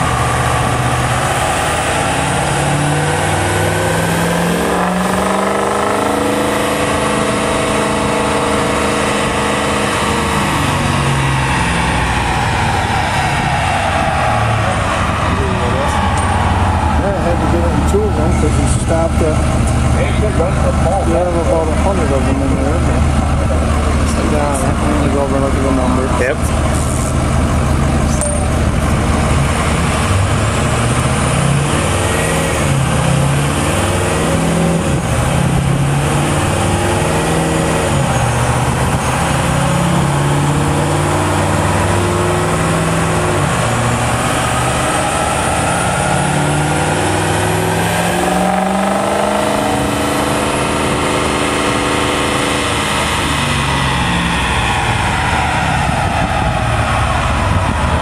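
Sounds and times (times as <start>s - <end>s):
diesel truck engine revving under load: 0.0s - 58.0s.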